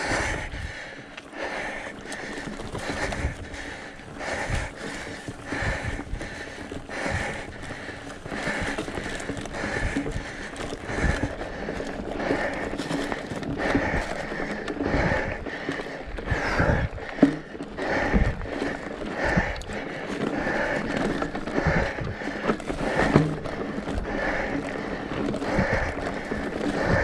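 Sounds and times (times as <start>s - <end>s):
bike tyres crunching: 0.0s - 27.0s
rider breathing hard: 0.0s - 27.0s
bike knocking over rocks: 1.6s - 27.0s.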